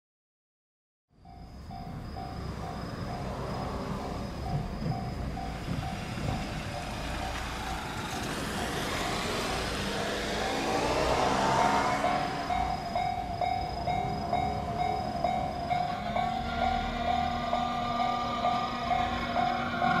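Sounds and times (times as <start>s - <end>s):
railroad crossing bell dinging: 1.2s - 20.0s
passing road vehicle engine: 1.4s - 20.0s.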